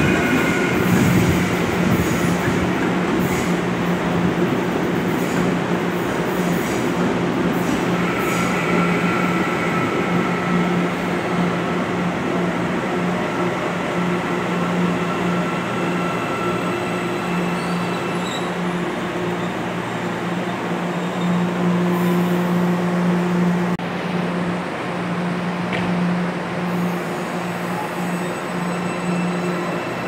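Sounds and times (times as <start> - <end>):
electric train rolling slowly: 0.0 - 30.0.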